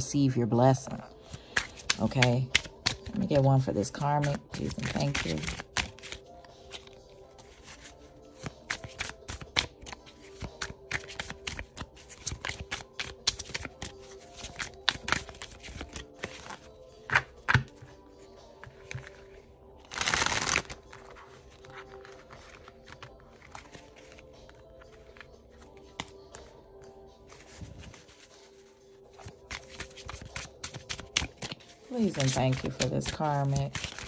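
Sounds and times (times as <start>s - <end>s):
soft background music: 0.0s - 34.0s
cards being shuffled: 1.2s - 34.0s.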